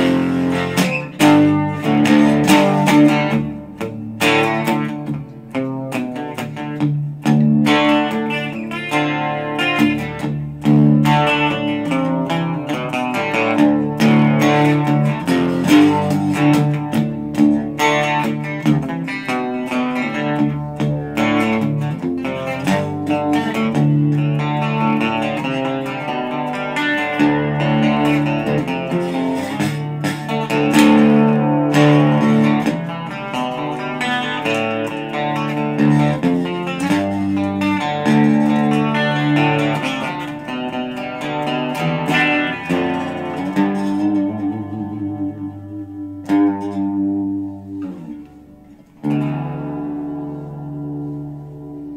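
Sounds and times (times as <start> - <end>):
electric guitar strummed and picked: 0.0 - 51.9.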